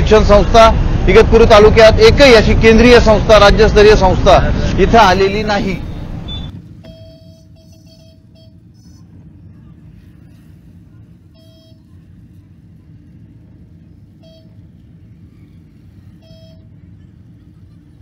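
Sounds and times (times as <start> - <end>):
vehicle rumble from inside cabin: 0.0 - 18.0.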